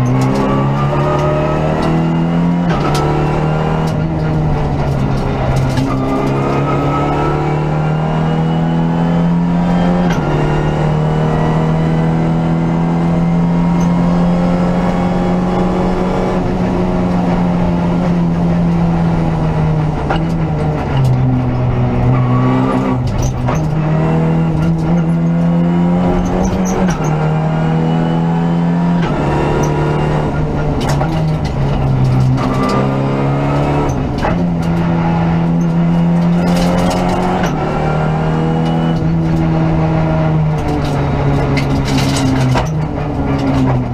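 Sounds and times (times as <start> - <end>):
car engine at high revs: 0.0 - 43.9.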